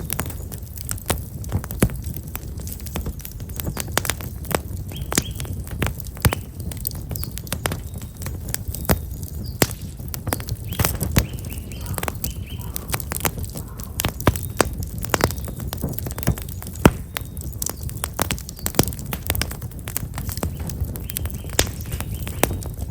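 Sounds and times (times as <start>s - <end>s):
fire crackling and popping: 0.0s - 22.9s
small birds chirping: 0.0s - 22.9s.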